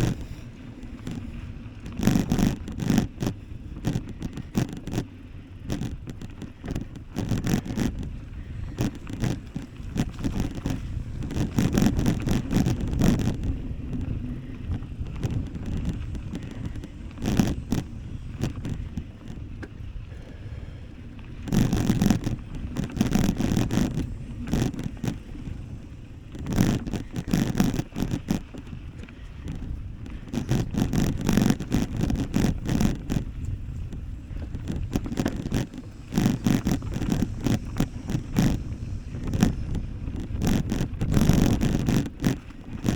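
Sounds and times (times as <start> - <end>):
bike rattling and knocking: 0.0 - 42.9
wind rumbling on microphone: 0.0 - 42.9.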